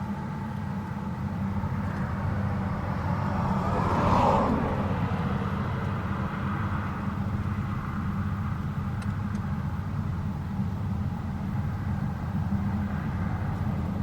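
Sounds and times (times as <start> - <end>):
combine harvester engine rumble: 0.0 - 14.0.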